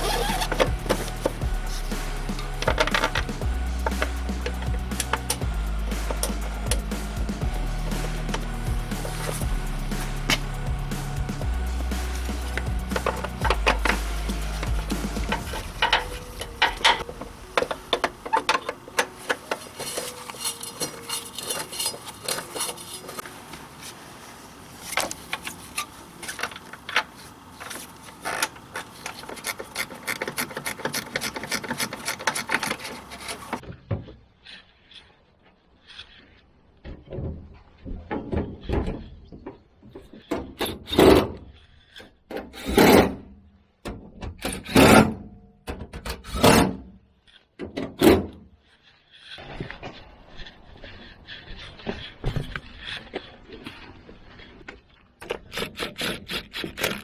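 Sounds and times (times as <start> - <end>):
tool rasping and scraping: 0.0 - 24.1, 24.8 - 36.9, 37.6 - 43.8, 44.4 - 45.3, 46.1 - 57.0.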